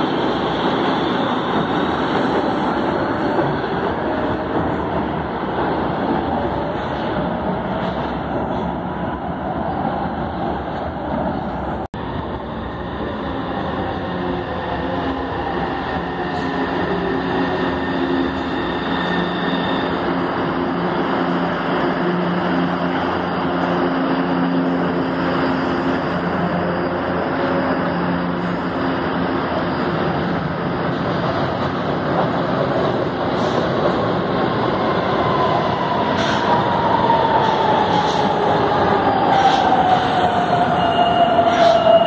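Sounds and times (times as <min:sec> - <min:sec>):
train rail running noise: 0:00.0 - 0:42.0.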